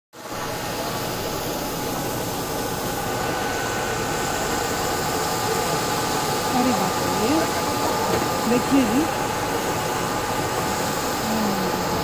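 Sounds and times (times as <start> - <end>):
machine hum with hiss: 0.2 - 12.0.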